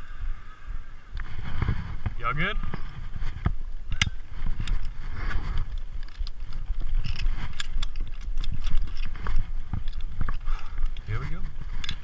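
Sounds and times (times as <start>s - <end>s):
camera handling rumble: 1.1s - 12.0s
climbing gear clicks and knocks: 1.5s - 12.0s.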